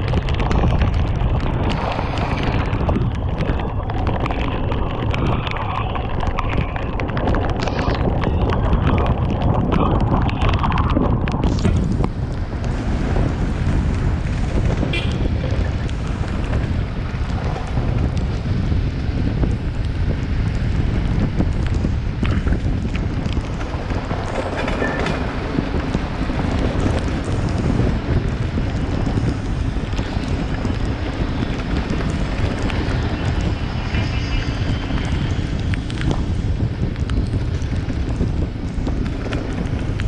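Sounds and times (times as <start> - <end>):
low road noise rumble: 0.0 - 40.0
wind buffeting microphone: 0.0 - 40.0.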